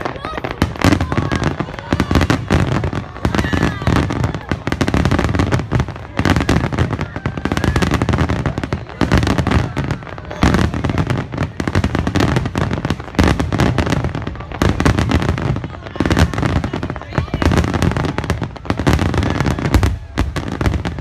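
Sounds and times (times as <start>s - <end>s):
crackling of firework stars: 0.0s - 21.0s
fireworks booming: 0.0s - 21.0s.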